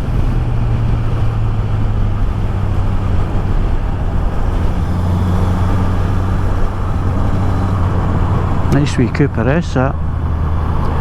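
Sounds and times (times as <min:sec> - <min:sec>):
motorcycle engine running: 0:00.0 - 0:11.0
wind and tyre noise: 0:00.0 - 0:11.0.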